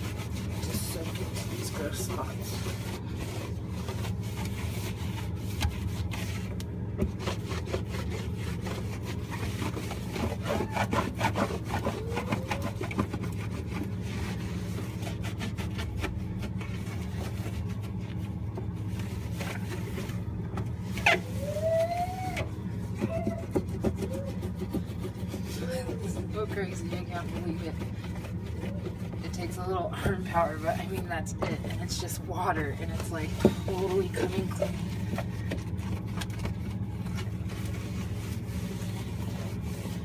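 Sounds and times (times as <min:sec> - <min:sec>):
cloth rubbing on surface: 0:00.0 - 0:40.0
steady low hum: 0:00.0 - 0:40.0.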